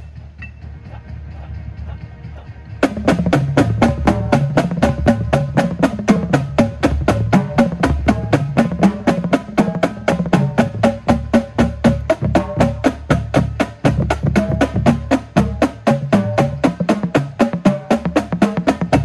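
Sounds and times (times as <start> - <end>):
tenor drums: 0.0 - 19.0
tuned bass drums: 0.0 - 19.0.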